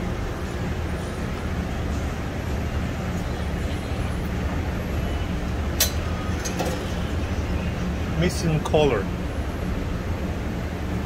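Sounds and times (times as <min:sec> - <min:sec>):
exhaust hood fans humming: 0:00.0 - 0:11.0.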